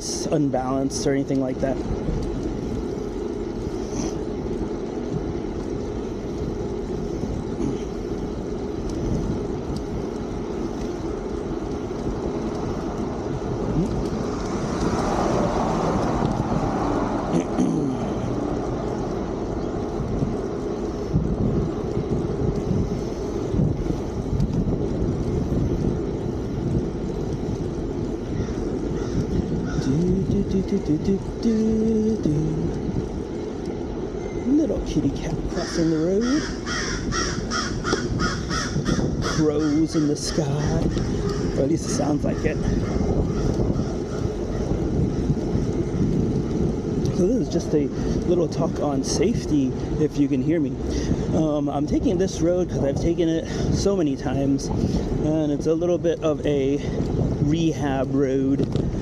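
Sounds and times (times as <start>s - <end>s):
bicycle tyre noise: 0.0s - 59.0s
wind rumbling on microphone: 0.0s - 59.0s.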